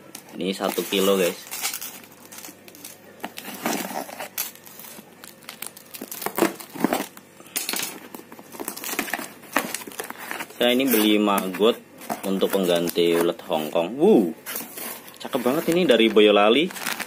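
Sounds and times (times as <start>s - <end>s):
tape and plastic crinkling: 0.0s - 13.8s, 14.4s - 17.0s
cardboard rustling: 0.3s - 7.2s, 7.9s - 17.0s.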